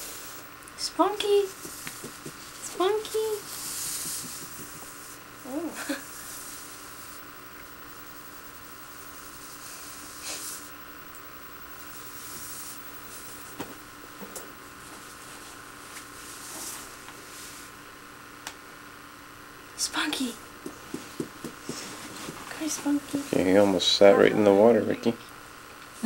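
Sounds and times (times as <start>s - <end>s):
electrical hum: 0.0s - 26.0s
steady recording hiss: 0.0s - 26.0s.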